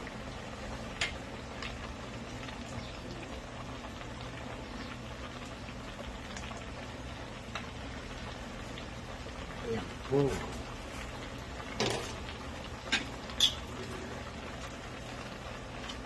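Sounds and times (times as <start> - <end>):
broth boiling and bubbling: 0.0 - 16.0.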